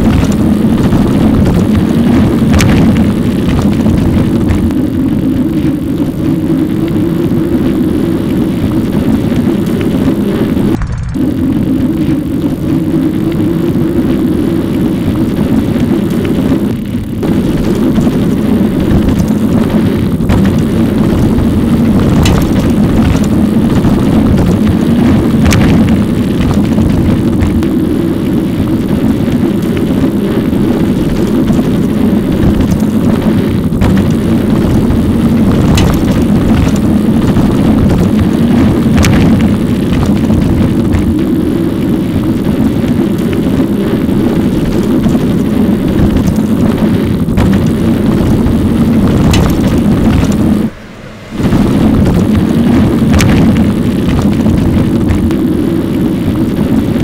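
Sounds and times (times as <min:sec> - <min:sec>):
wind and road noise whir: 0:00.0 - 0:57.0.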